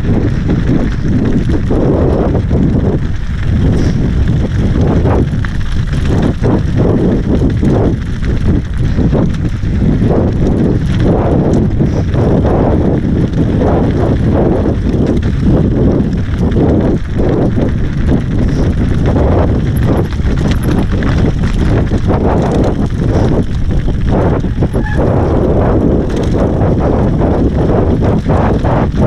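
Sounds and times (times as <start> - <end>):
bike frame and chain rattling: 0.0 - 29.0
tyres crunching on loose rock: 0.0 - 29.0
wind rushing on microphone: 0.0 - 29.0.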